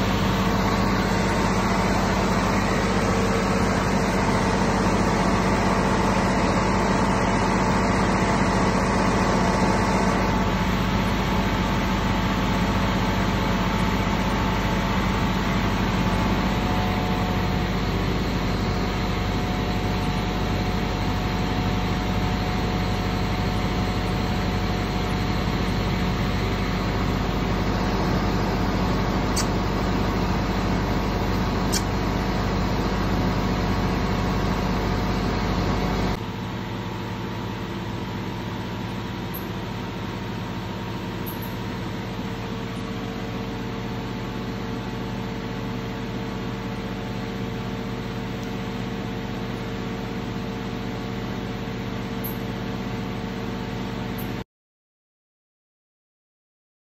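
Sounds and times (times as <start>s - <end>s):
engine droning: 0.0s - 54.3s.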